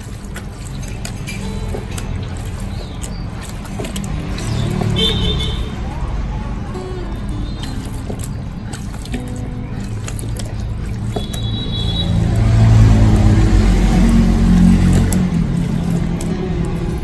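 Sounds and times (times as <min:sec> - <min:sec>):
low engine rumble: 0:00.0 - 0:17.0
shower head spraying water: 0:00.0 - 0:17.0.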